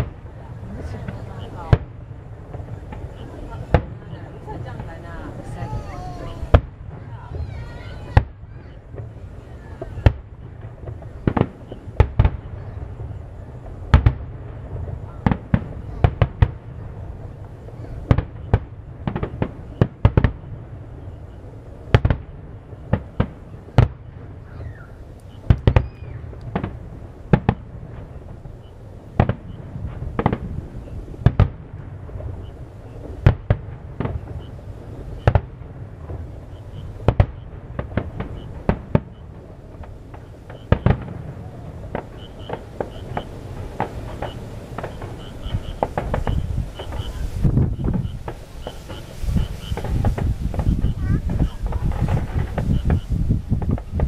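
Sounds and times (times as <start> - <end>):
continuous low rumble: 0.0 - 54.0
firework shells bursting: 0.0 - 54.0.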